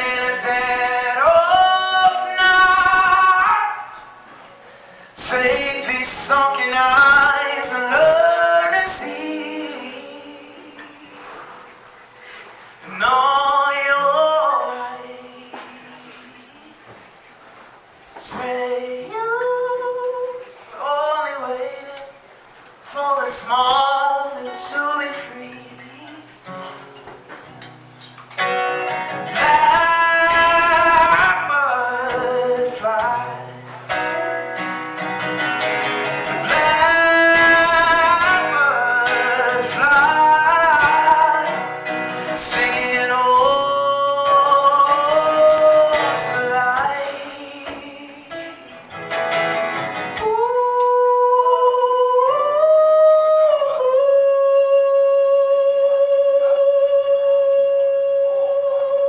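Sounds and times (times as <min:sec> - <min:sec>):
person singing: 0:00.0 - 0:04.3, 0:05.2 - 0:11.6, 0:18.2 - 0:22.2, 0:22.9 - 0:26.6, 0:28.5 - 0:59.0
guitar accompaniment: 0:00.0 - 0:59.0.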